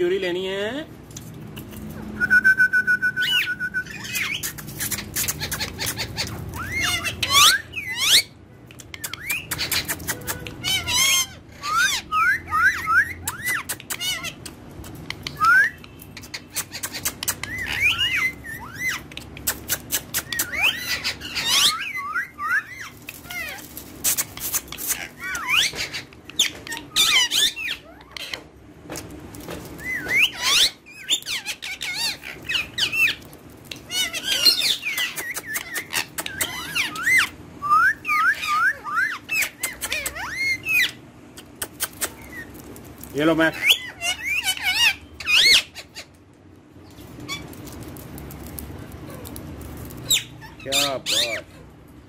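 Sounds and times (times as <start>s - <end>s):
parakeets chirping and squawking: 3.2s - 52.0s.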